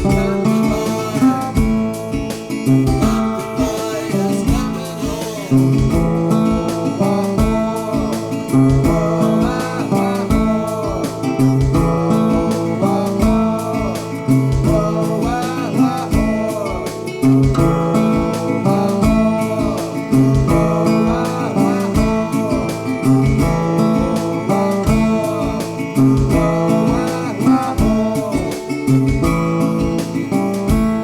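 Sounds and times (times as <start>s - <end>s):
person singing: 0.0s - 30.6s
strummed acoustic guitar: 0.0s - 31.0s.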